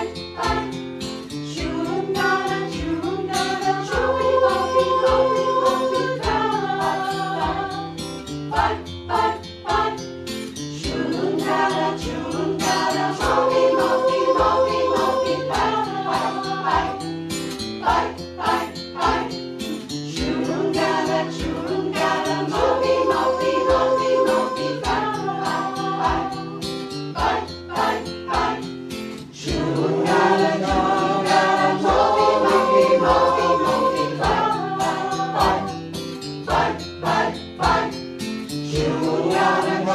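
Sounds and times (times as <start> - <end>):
mixed choir singing: 0.0 - 39.9
strummed accompaniment: 0.0 - 39.9.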